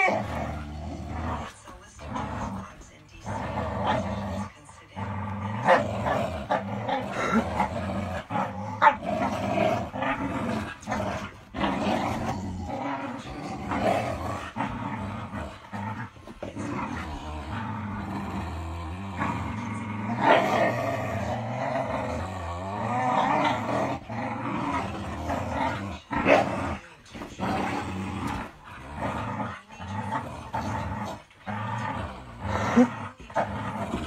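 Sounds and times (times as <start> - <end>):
dog snarls: 0.0 - 34.0
dogs growling in play: 0.0 - 34.0.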